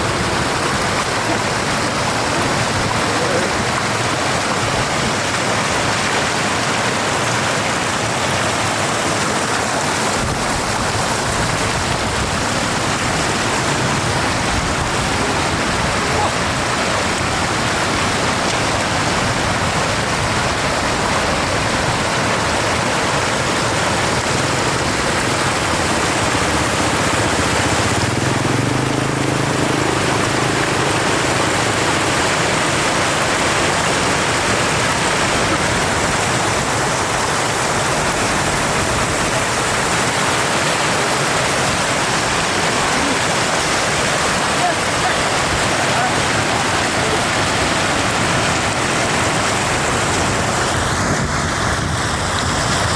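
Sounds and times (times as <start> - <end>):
floodwater rushing: 0.0 - 52.9.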